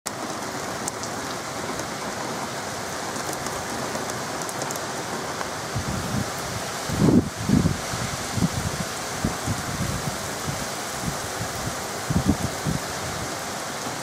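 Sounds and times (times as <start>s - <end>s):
heavy rain pouring: 0.1s - 14.0s
wind rumbling on microphone: 0.4s - 14.0s.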